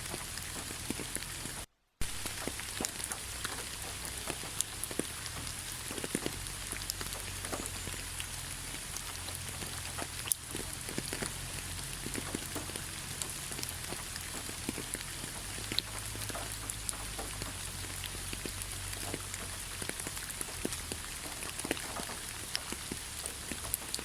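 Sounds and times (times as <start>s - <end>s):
rain drops ticking: 0.0s - 24.0s
steady rain hiss: 0.0s - 24.0s.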